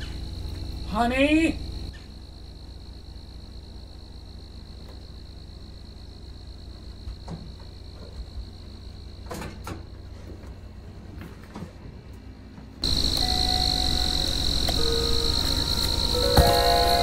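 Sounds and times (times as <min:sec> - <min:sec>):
crickets chirring: 0:00.0 - 0:11.4, 0:12.0 - 0:17.0.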